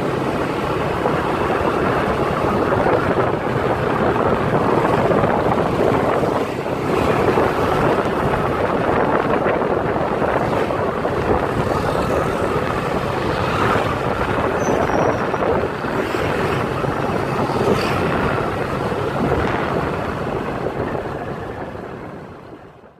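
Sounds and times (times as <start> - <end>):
moving vehicle: 0.0 - 22.9
wind buffeting microphone: 0.0 - 22.9.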